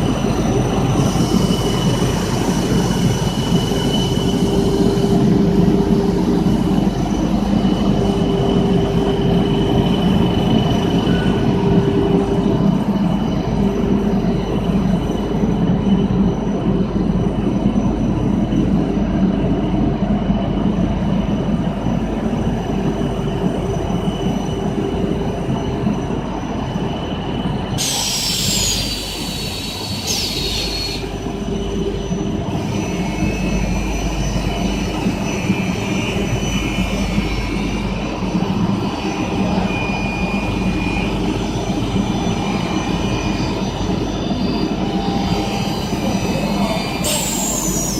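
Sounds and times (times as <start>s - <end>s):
loud machine drone: 0.0s - 47.9s.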